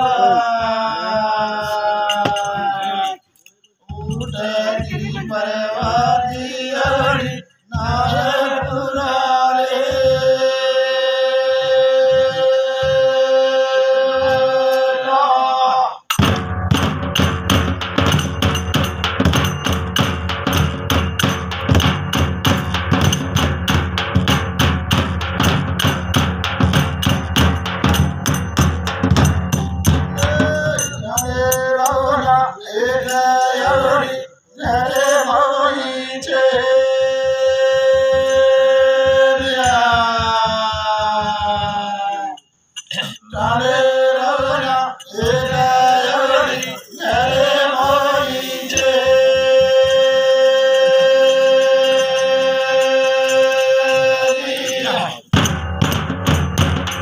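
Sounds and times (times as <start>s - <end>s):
men singing devotional song: 0.0s - 16.2s, 25.0s - 55.5s
drums in fast steady beat: 3.9s - 14.7s, 16.0s - 34.0s, 34.6s - 35.5s, 36.4s - 57.0s.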